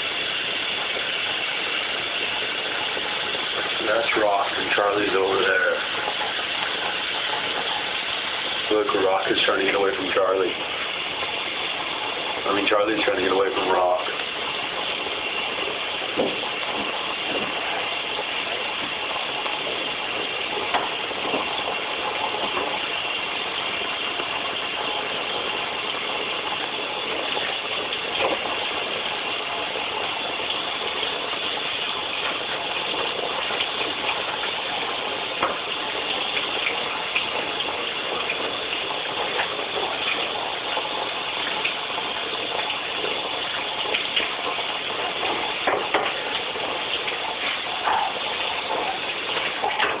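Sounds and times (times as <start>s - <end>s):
aquarium filter water rushing: 0.0s - 50.0s.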